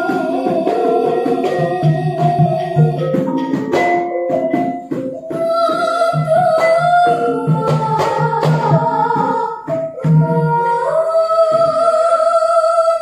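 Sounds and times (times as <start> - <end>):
woman singing into microphone: 0.0 - 4.1, 4.9 - 13.0
struck metallophone notes: 0.0 - 11.9
drum strokes: 0.0 - 12.2.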